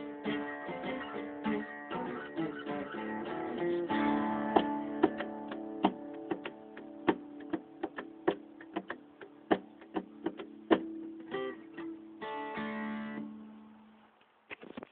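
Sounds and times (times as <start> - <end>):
acoustic guitar folk-blues: 0.0 - 13.6.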